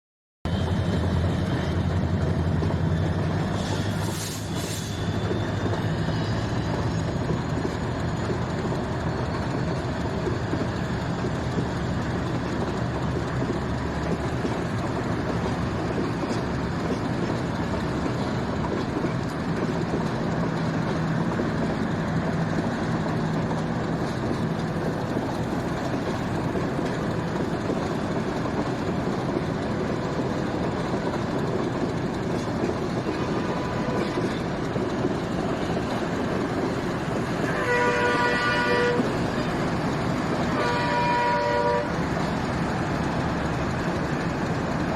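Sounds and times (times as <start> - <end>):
train rumbling on rails: 0.5 - 44.9.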